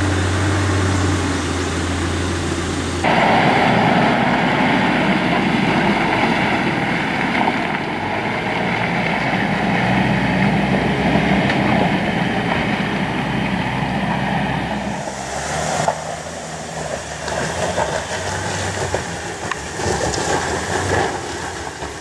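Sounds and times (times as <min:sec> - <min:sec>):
off-road vehicle engine under load: 0:00.0 - 0:22.0.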